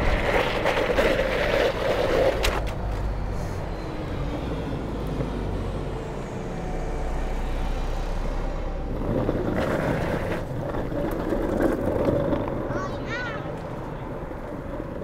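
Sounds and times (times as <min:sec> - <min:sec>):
road traffic: 0:00.0 - 0:15.0
skateboard wheels rolling on pavement: 0:00.0 - 0:15.0.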